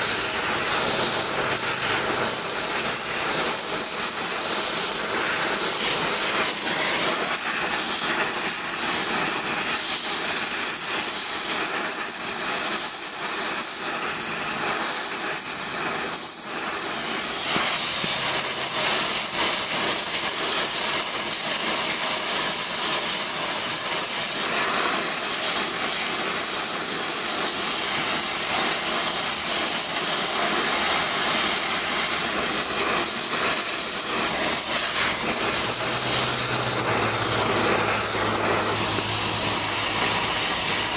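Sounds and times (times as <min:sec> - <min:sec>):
torch flame hissing: 0:00.0 - 0:40.9.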